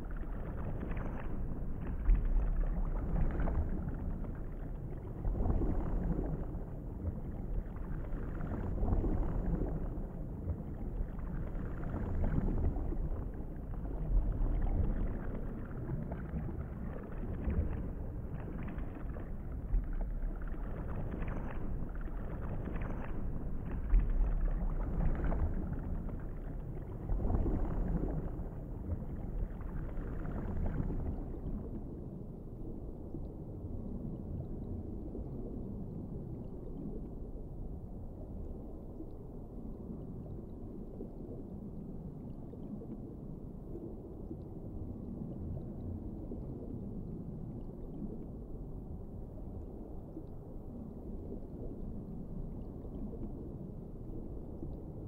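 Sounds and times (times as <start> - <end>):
muffled underwater rumble: 0.0 - 55.0.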